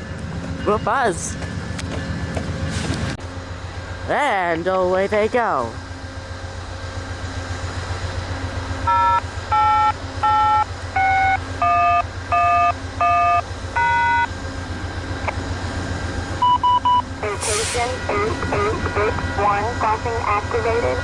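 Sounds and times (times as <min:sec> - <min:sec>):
diesel locomotive rumble: 0:00.0 - 0:21.0.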